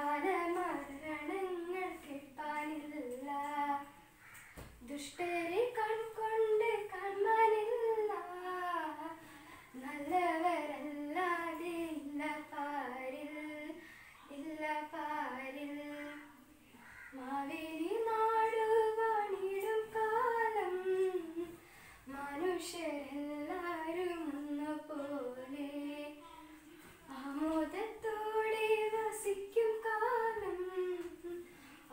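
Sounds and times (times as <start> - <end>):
child singing unaccompanied: 0.0 - 4.2, 4.8 - 21.5, 22.1 - 31.9.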